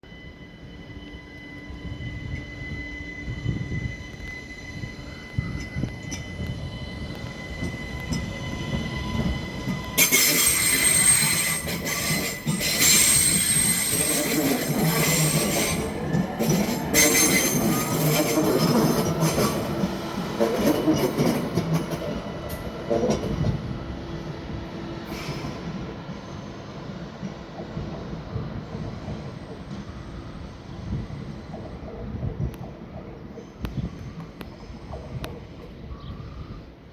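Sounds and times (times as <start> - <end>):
train wheels squealing: 0.0 - 36.8.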